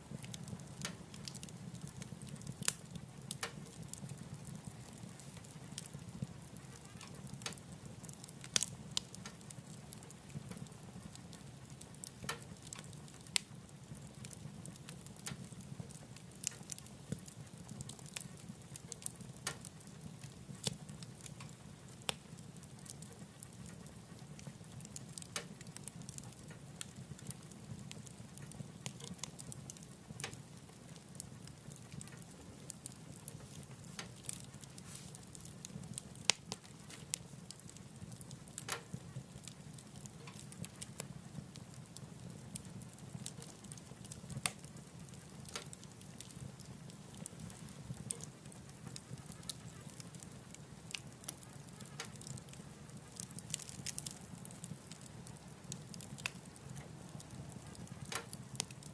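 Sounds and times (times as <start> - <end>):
low rumble of fire: 0.0 - 58.9
wood fire crackling and popping: 0.0 - 58.9.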